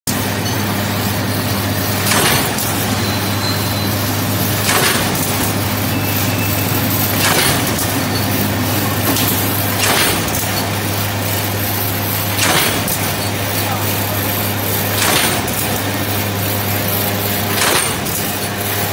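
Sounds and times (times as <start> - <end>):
wire cutting bursts: 1.5 - 18.9.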